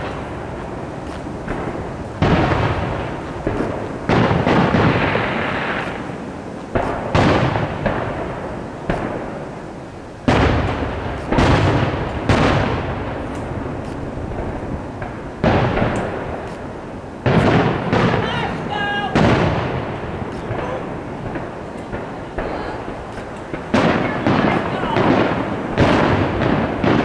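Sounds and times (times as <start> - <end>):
firework shells bursting with echo: 0.0 - 27.0.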